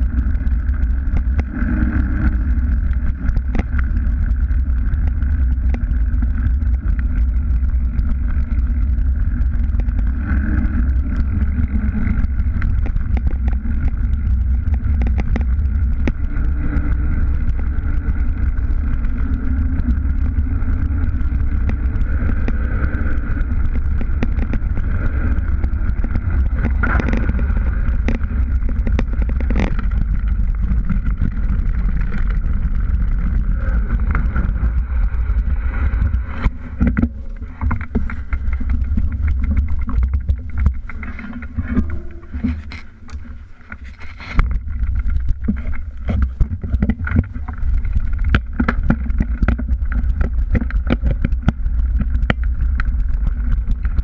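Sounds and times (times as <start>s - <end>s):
bike clicks and rattles: 0.0s - 54.0s
bike tyres on pavement and dirt: 0.0s - 54.0s
wind rumble on microphone: 0.0s - 54.0s.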